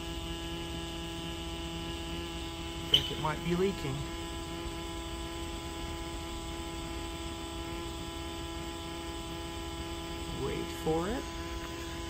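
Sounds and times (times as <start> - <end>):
electric fuel pump humming: 0.0 - 12.0.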